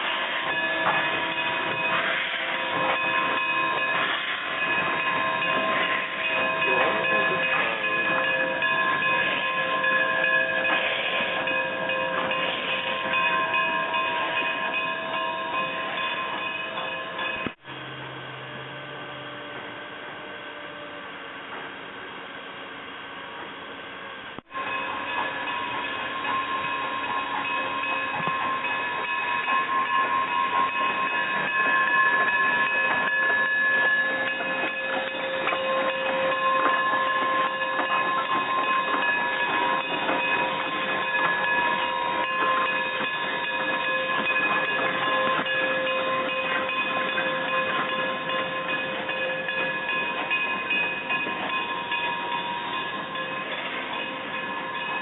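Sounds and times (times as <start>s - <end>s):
train running on rails: 0.0s - 55.0s.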